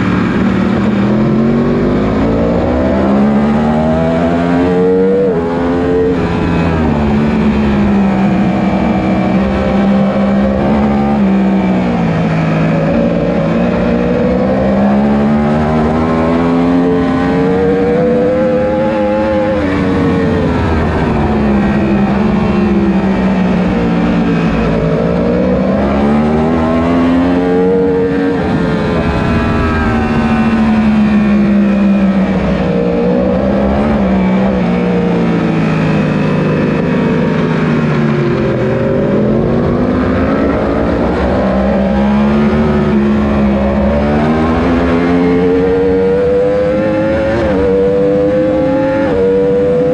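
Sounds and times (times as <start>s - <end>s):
racing motorcycle engine: 0.0s - 49.9s.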